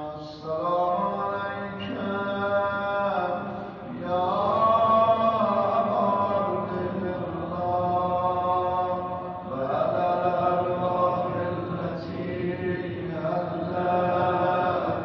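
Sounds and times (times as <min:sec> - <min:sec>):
man chanting a lament: 0:00.0 - 0:15.0.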